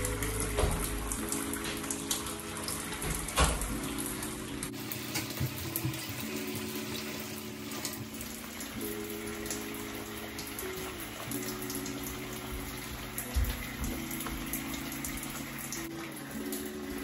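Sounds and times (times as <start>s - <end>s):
shower water running: 0.0s - 17.0s
soft background music: 0.0s - 17.0s.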